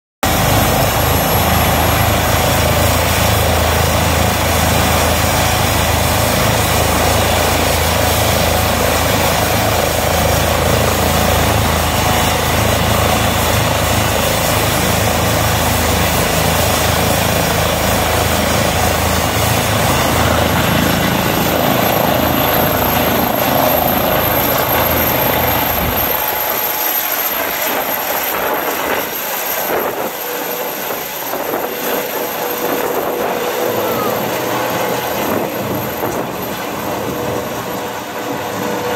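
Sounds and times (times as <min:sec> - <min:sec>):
helicopter engine running: 0:00.2 - 0:38.9
high turbine whine: 0:00.2 - 0:38.9
low rotor hum: 0:00.2 - 0:38.9.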